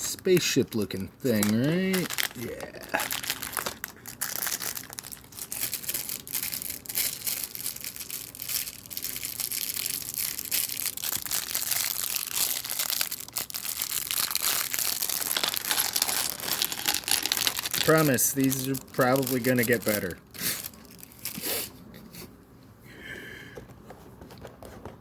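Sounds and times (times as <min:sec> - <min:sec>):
packaging crinkling: 0:00.0 - 0:21.5.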